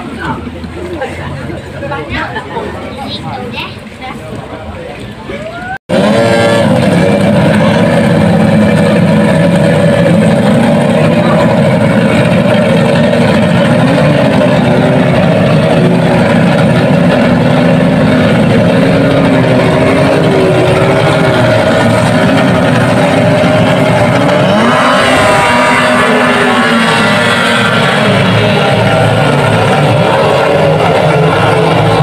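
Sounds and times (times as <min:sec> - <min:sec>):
outboard motors racing: 0:00.0 - 0:32.0.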